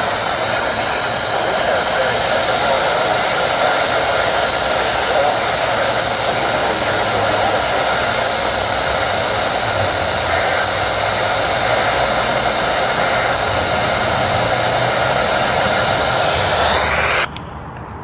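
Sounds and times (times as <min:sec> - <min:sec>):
radio static hiss: 0:00.0 - 0:17.7.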